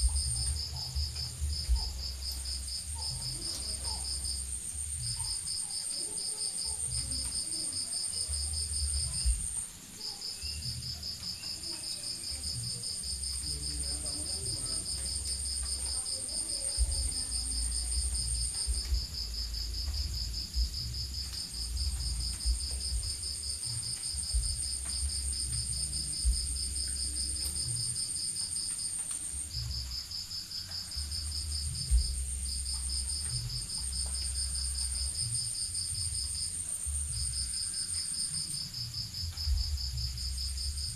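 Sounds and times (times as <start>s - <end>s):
crickets trilling in pulses: 0.0s - 40.9s
high-pitched cricket trill: 0.0s - 40.9s.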